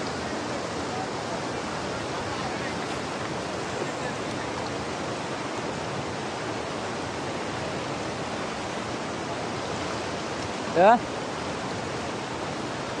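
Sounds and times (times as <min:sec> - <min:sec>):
fast-flowing river water: 0:00.0 - 0:13.0.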